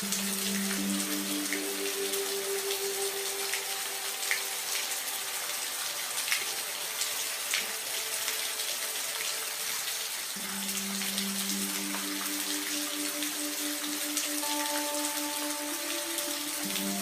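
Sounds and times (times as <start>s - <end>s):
soft music of held notes: 0.0s - 17.0s
steady rain: 0.0s - 17.0s.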